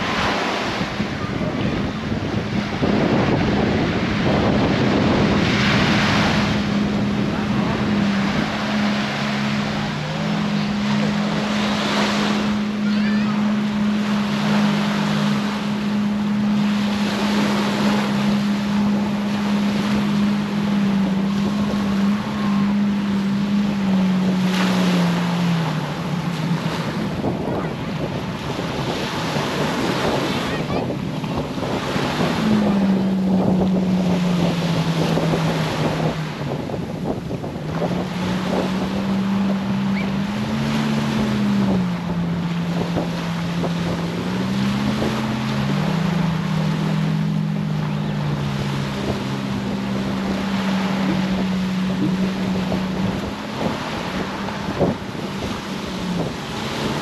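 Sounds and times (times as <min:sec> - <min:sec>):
motorboat engine running: 0:00.0 - 0:57.0
surf: 0:00.0 - 0:57.0
wind on the microphone: 0:00.0 - 0:57.0.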